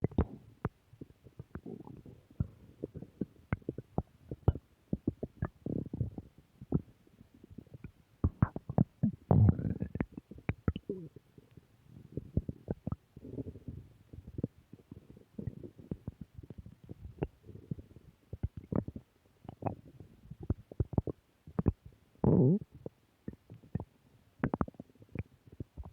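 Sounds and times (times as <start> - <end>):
stomach growling: 0.0 - 25.9.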